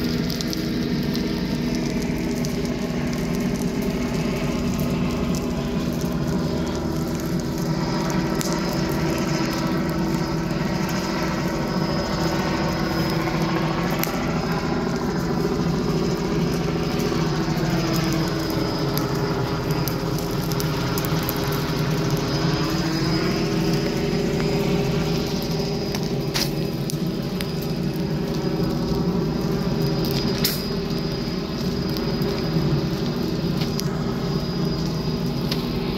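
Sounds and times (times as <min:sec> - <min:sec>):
helicopter drone overhead: 0:00.0 - 0:35.9.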